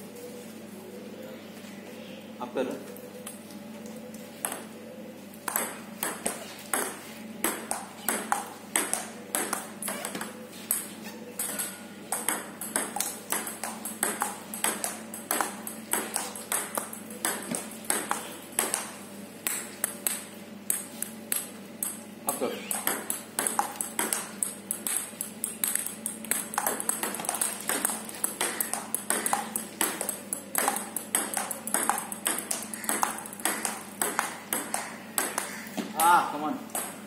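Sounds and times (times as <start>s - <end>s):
table tennis ball ticking: 5.5s - 37.0s.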